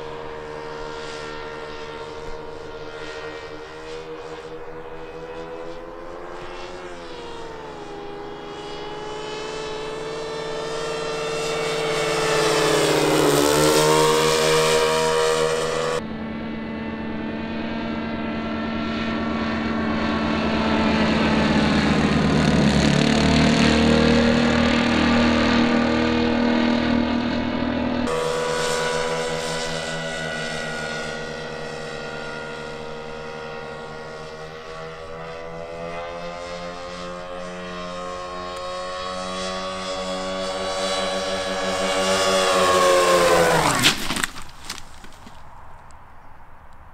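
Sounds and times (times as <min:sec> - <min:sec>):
model plane engines passing: 0:00.0 - 0:46.9.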